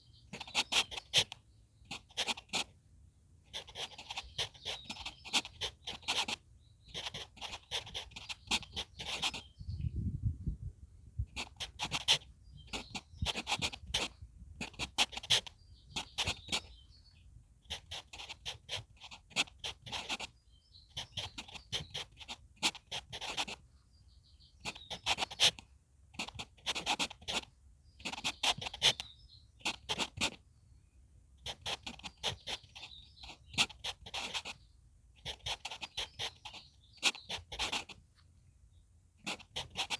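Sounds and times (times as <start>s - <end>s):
faint bird chirps: 0.0s - 2.8s, 3.4s - 10.6s, 11.2s - 25.6s, 26.2s - 39.9s
pencil scratching on paper: 0.3s - 2.8s, 3.5s - 9.5s, 11.3s - 16.8s, 17.6s - 23.6s, 24.6s - 25.6s, 26.2s - 30.4s, 31.4s - 34.6s, 35.2s - 38.0s, 39.2s - 39.9s.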